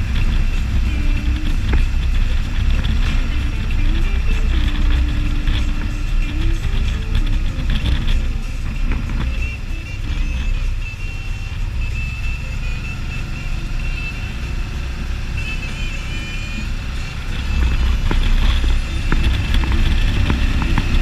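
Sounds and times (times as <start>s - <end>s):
motorcycle engine rumble: 0.0s - 21.0s
wind and road noise: 0.0s - 21.0s.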